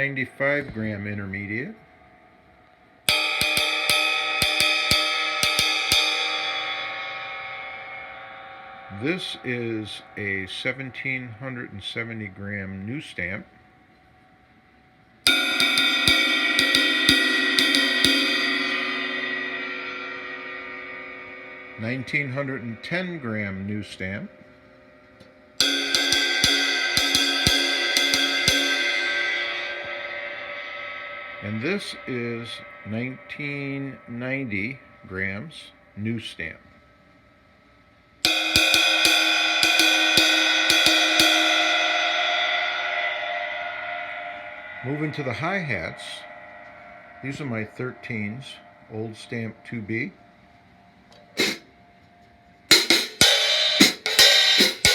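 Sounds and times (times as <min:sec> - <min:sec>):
stick strokes on cymbal: 0:00.0 - 0:54.9
cymbal crash: 0:01.5 - 0:12.7, 0:14.6 - 0:36.0, 0:37.0 - 0:54.9.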